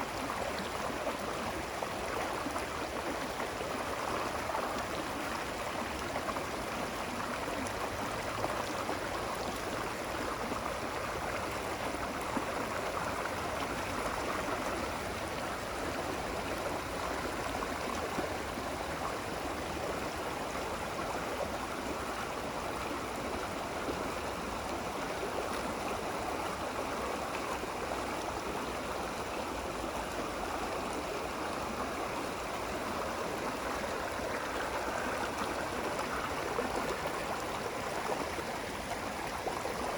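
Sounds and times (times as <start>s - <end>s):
water rushing and gurgling: 0.0s - 39.9s.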